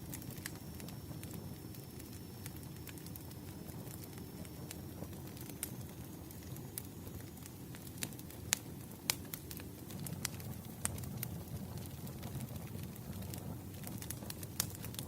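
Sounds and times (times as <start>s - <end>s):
fire crackles and pops: 0.0s - 15.0s
low rumble of flame: 0.0s - 15.0s.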